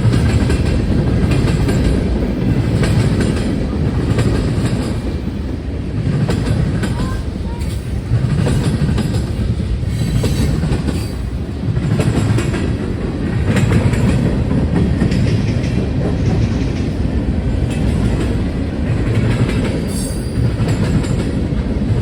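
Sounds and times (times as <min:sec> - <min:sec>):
freight train cars rolling: 0:00.0 - 0:22.0.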